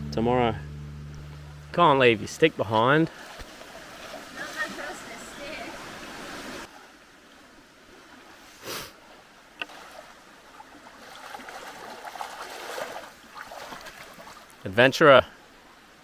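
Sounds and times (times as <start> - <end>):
creek water running: 1.2 - 16.0.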